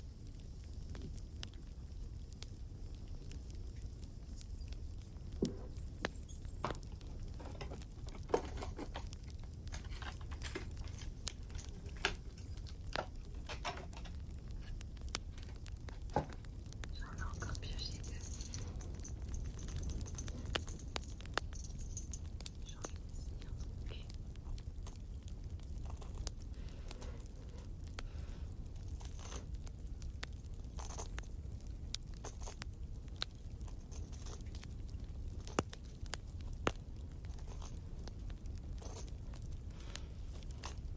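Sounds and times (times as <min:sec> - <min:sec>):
low steady hum: 0:00.0 - 0:40.9
low steady rumble: 0:00.0 - 0:40.9
wood fire crackling: 0:00.0 - 0:40.9.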